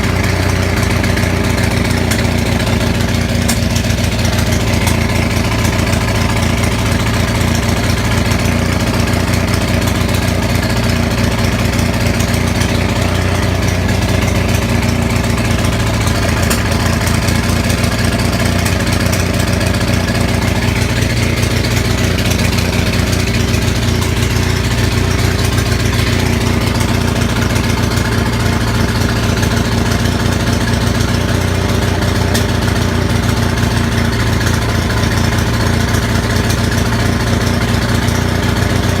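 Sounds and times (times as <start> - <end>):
generator engine misfiring: 0.0 - 39.0.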